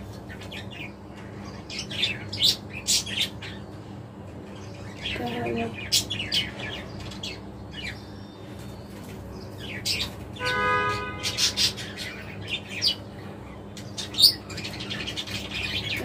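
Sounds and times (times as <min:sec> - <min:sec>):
budgerigars chirping: 0:00.0 - 0:03.8, 0:04.5 - 0:16.0.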